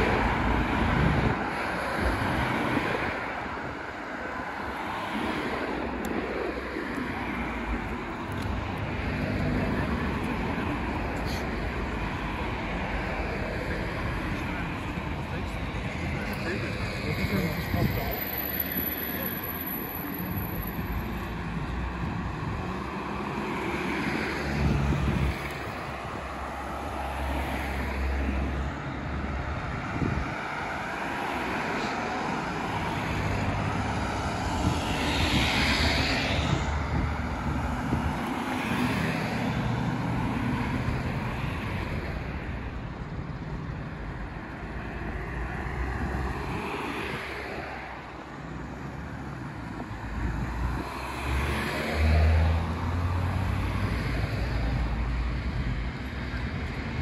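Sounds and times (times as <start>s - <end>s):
city traffic noise: 0.0s - 57.0s
vehicles passing: 0.0s - 57.0s.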